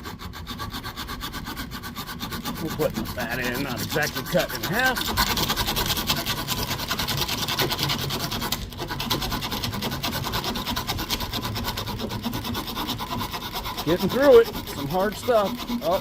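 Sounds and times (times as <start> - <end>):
saw blade rasping through chew: 0.6 - 16.0.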